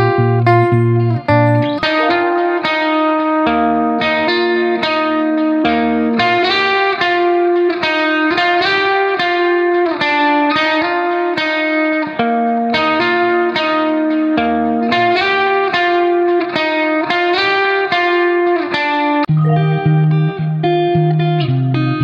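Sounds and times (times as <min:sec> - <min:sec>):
plucked guitar melody: 0:00.0 - 0:22.0.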